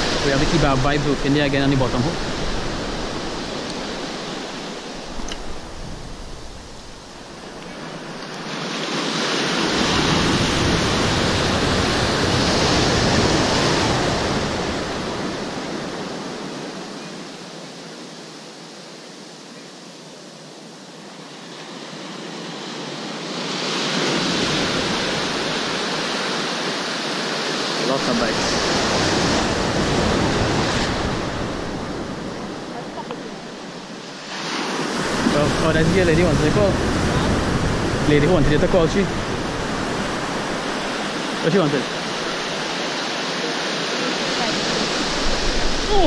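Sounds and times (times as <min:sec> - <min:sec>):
sea surf breaking: 0:00.0 - 0:17.6, 0:20.0 - 0:46.0.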